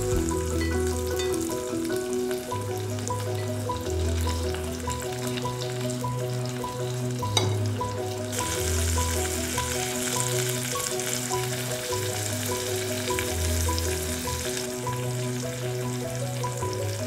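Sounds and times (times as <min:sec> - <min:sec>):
food sizzling in butter: 0:00.0 - 0:17.0
light background music: 0:00.0 - 0:17.0.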